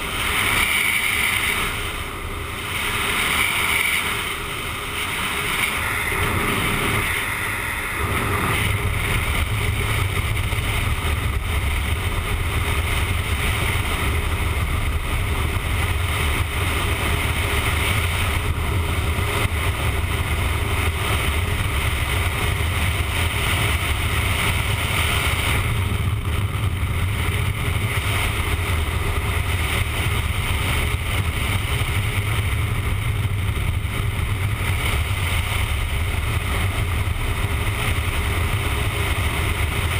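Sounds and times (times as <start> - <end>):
motorcycle engine and road rumble: 0.0 - 39.9
wind rushing over microphone: 0.0 - 39.9.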